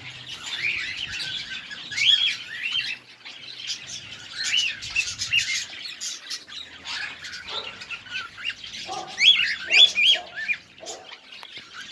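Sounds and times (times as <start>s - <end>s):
cage birds chirping: 0.0s - 11.9s.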